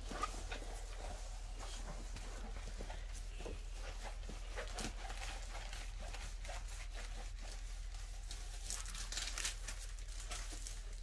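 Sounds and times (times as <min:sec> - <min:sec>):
low electrical hum: 0:00.0 - 0:11.0
plastic film crinkling: 0:02.0 - 0:11.0.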